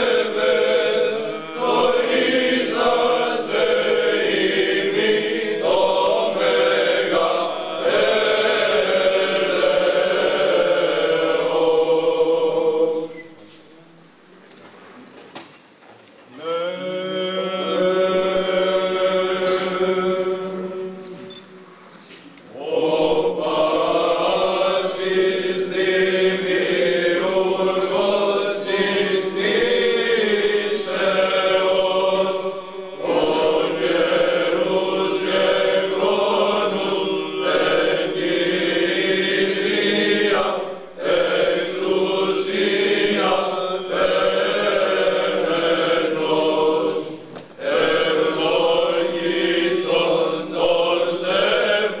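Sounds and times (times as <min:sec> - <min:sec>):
chant sung in long phrases: 0:00.0 - 0:13.4, 0:16.3 - 0:21.3, 0:22.5 - 0:52.0
held vocal drone: 0:00.0 - 0:13.9, 0:16.3 - 0:21.4, 0:22.5 - 0:52.0.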